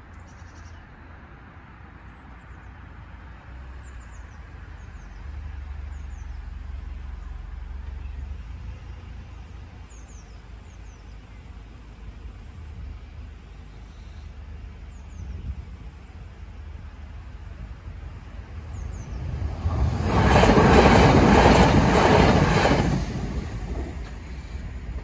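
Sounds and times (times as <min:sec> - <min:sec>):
low outdoor rumble: 0:02.1 - 0:25.0.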